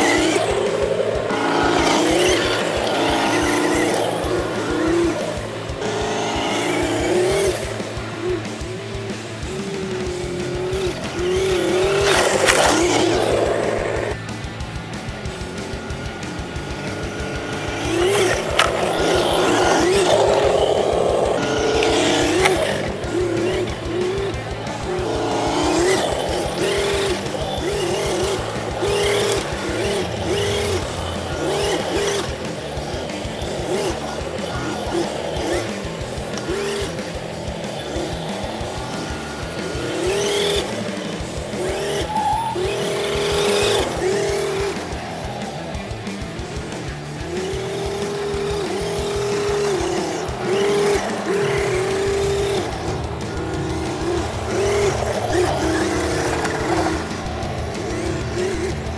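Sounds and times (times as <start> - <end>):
music: 0.0 - 58.9
simulated engine revving: 0.0 - 58.9.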